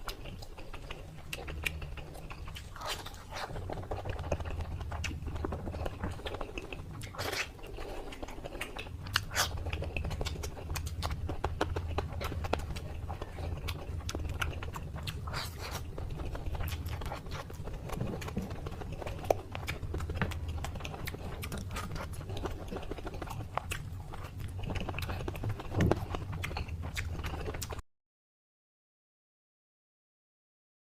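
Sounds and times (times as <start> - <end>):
chewing crispy food: 0.0 - 27.8
steady low hum: 0.0 - 27.8.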